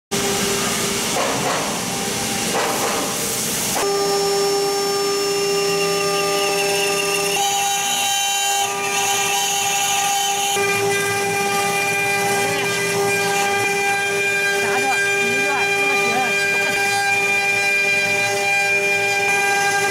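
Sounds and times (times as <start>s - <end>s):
spindle motors whining: 3.3s - 19.9s.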